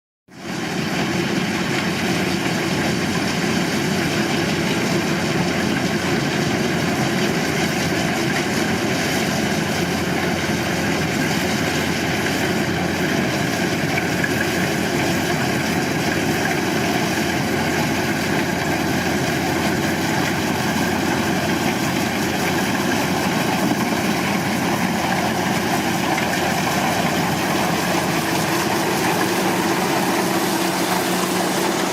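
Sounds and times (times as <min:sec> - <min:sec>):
combine harvester running: 0:00.3 - 0:31.9.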